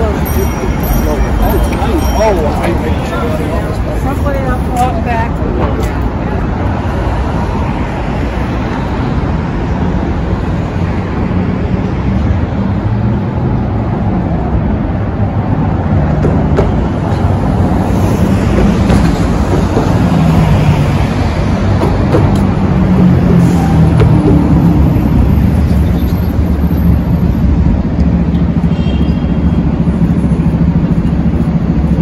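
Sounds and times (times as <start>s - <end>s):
passing vehicles: 0.0s - 32.0s.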